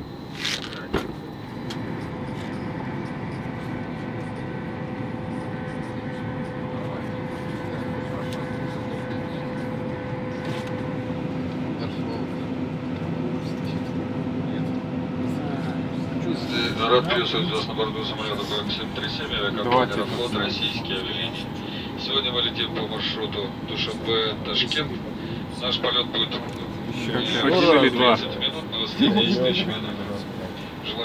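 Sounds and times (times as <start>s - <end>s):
airliner cabin hum: 0.0s - 31.0s.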